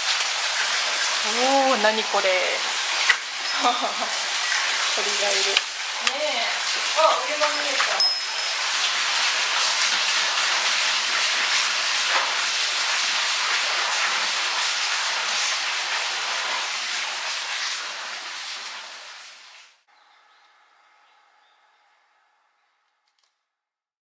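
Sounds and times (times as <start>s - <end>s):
water flowing: 0.0s - 19.7s.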